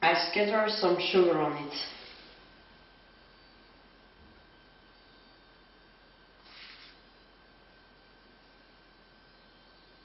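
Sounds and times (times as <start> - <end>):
thin steady whine: 0.0 - 10.0.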